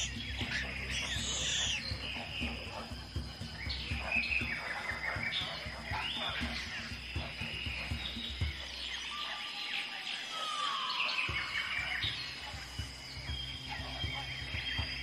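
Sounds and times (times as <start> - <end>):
bird calls and chirps: 0.0 - 15.0
low music with soft beats: 0.0 - 15.0
steady high-pitched drone: 0.0 - 15.0.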